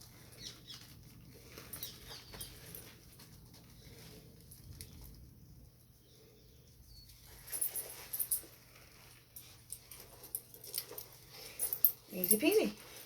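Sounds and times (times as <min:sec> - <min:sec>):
metal clinks and jingles: 0:00.0 - 0:05.2, 0:07.0 - 0:13.0
leather belt rustling: 0:00.0 - 0:05.4, 0:06.9 - 0:13.0.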